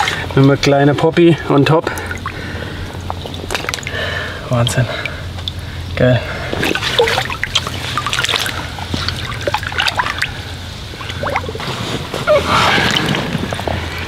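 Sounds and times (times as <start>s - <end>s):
shallow water splashing: 1.8s - 14.0s.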